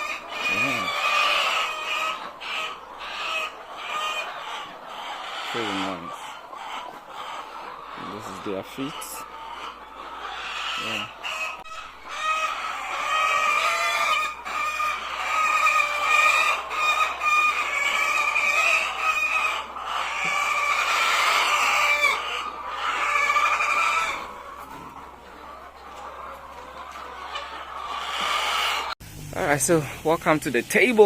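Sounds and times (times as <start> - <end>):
chickens clucking and calling: 0.0 - 31.0.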